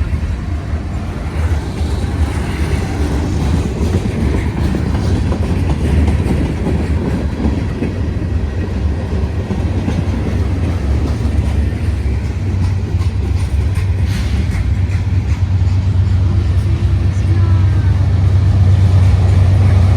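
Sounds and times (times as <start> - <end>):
freight train wheels rumbling on rail: 0.0 - 19.9.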